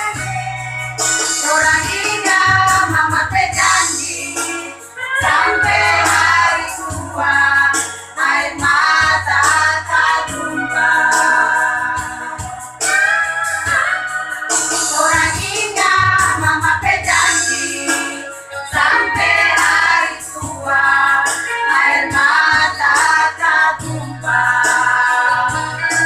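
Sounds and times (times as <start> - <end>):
instrumental accompaniment with bass: 0.0 - 26.0
women's choir singing: 1.4 - 13.1, 14.9 - 25.9.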